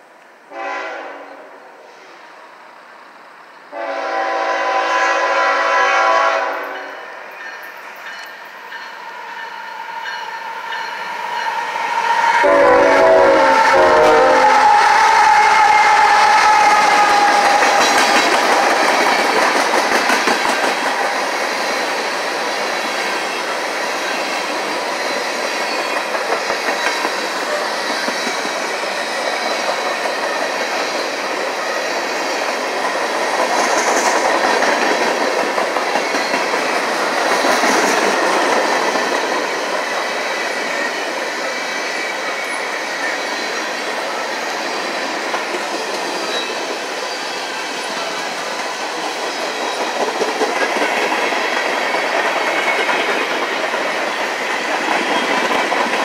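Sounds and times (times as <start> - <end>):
steel wheels rolling on rails: 7.4 - 56.0.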